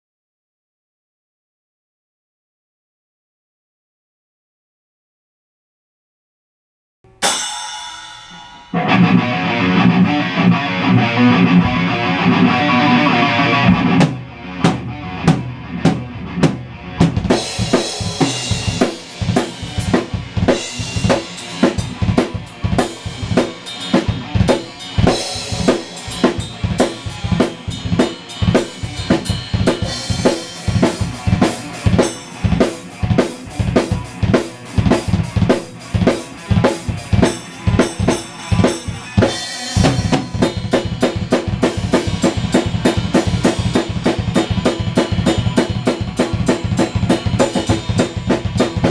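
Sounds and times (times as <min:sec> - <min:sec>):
drum kit rock beat: 0:07.1 - 0:48.9
guitar notes: 0:07.1 - 0:48.9.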